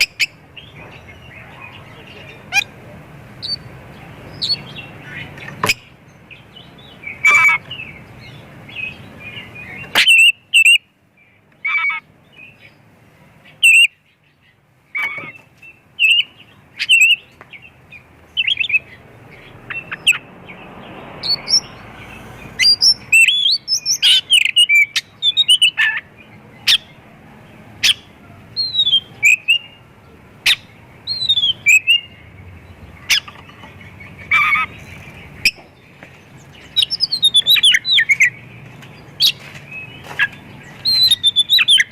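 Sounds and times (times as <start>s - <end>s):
bird singing varied song: 0.0s - 41.9s.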